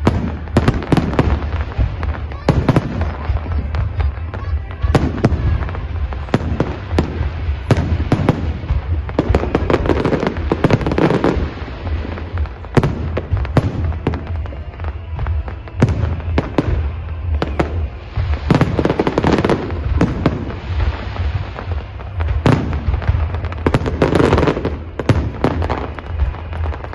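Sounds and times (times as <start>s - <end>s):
fireworks bursting: 0.0s - 26.9s
fireworks crackling: 0.0s - 26.9s
low rumble: 0.0s - 26.9s.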